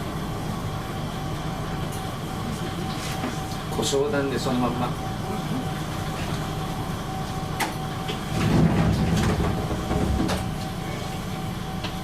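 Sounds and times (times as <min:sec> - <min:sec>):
diesel railcar engine running: 0:00.0 - 0:12.0.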